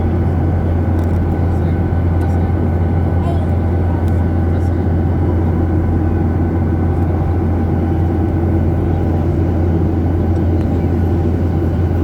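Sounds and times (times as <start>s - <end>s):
airliner cabin low hum: 0.0s - 12.0s.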